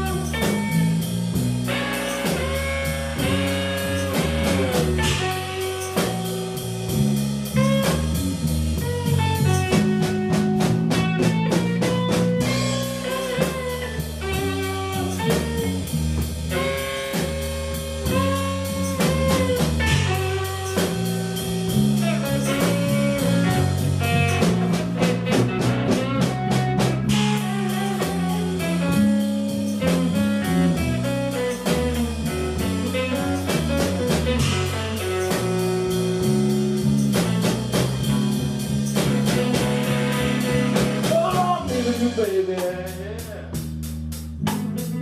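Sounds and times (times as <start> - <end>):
guitar lead lines: 0.0 - 43.6, 44.4 - 45.0
bass guitar: 0.0 - 45.0
drum kit beat: 0.0 - 45.0.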